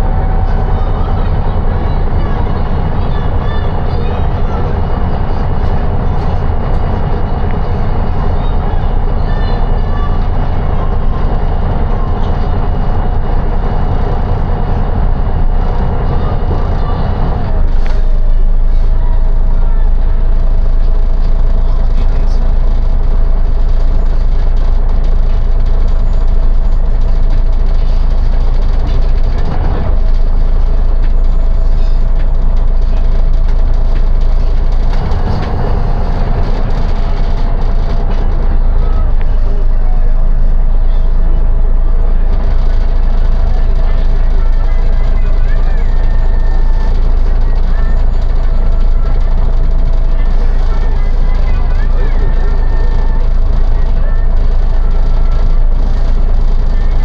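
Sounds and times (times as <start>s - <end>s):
bus engine and road rumble: 0.0s - 57.0s
faint steady whine: 0.0s - 57.0s.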